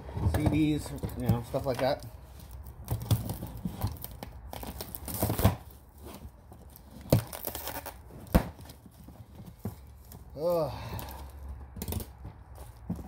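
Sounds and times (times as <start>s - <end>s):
cardboard tearing and rustling: 0.4s - 13.0s.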